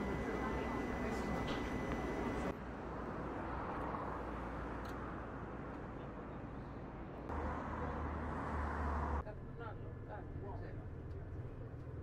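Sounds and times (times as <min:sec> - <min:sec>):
steady outdoor background noise: 0:00.0 - 0:12.0.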